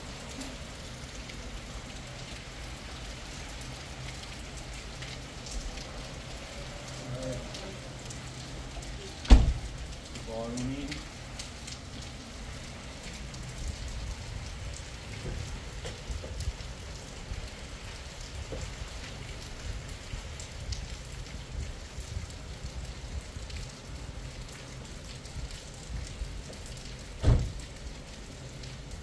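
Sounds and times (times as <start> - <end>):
rain on hard surfaces: 0.0 - 29.0.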